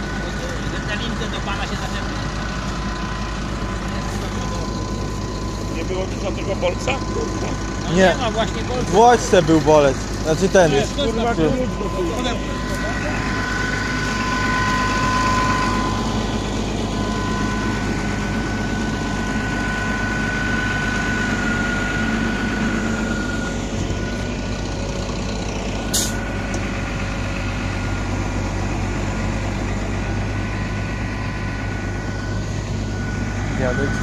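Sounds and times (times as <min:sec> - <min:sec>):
high whine: 0:00.0 - 0:34.0
tractor diesel engine running: 0:00.0 - 0:34.0.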